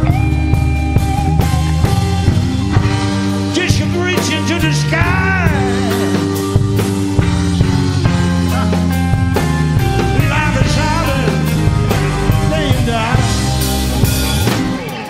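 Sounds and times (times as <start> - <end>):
blues-rock band music: 0.0 - 15.0.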